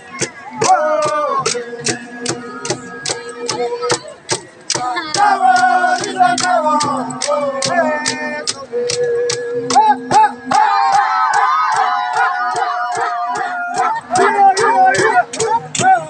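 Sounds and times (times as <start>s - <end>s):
sharp rhythmic strikes: 0.0s - 16.0s
group singing a chant: 0.1s - 16.0s.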